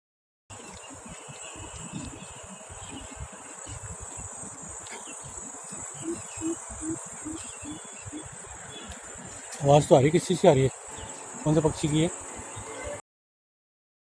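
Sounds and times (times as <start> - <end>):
insects shrilling: 0.5 - 13.0.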